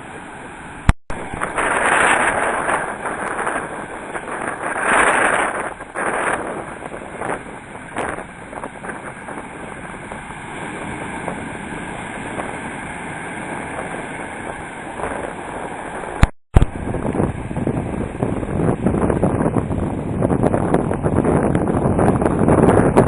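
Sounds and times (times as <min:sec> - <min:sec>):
surf and moving water: 0:00.0 - 0:23.0
wind buffeting microphone: 0:01.1 - 0:23.0.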